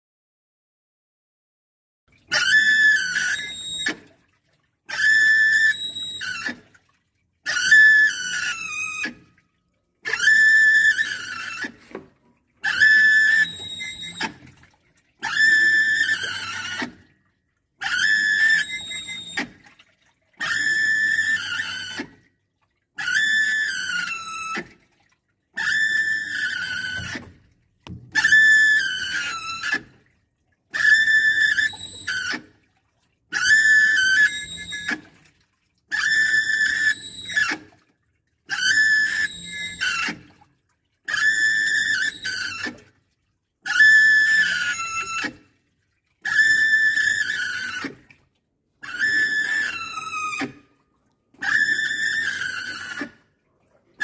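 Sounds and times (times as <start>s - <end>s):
washing machine agitating: 2.1s - 54.0s.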